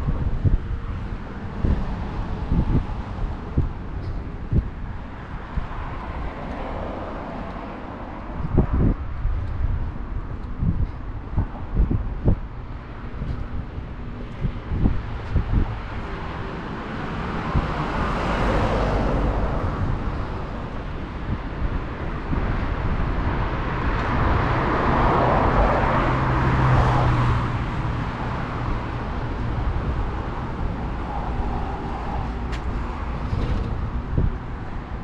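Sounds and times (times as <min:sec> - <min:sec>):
low engine hum: 0:00.0 - 0:35.0
road traffic passing: 0:00.0 - 0:35.0.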